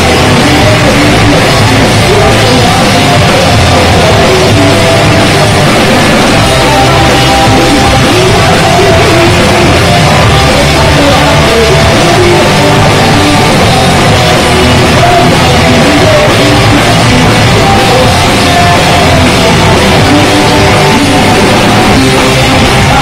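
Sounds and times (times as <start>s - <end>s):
bass guitar: 0.0s - 23.0s
drum kit: 0.0s - 23.0s
electric guitars: 0.0s - 23.0s.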